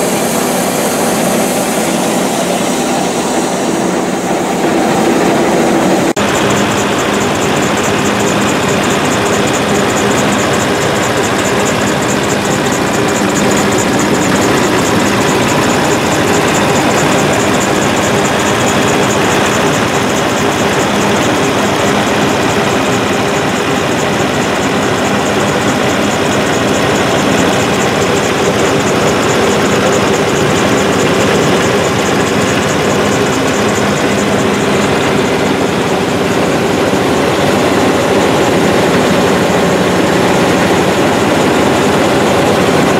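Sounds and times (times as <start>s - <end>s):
diesel pump engine droning: 0.0s - 42.9s.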